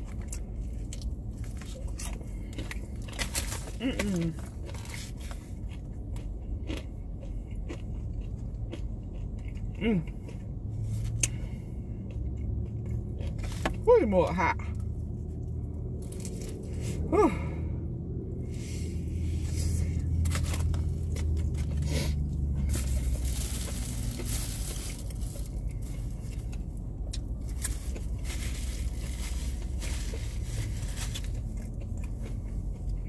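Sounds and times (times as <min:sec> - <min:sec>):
crunchy chewing: 0:00.0 - 0:13.8, 0:19.1 - 0:33.0
steady low hum: 0:00.0 - 0:33.0.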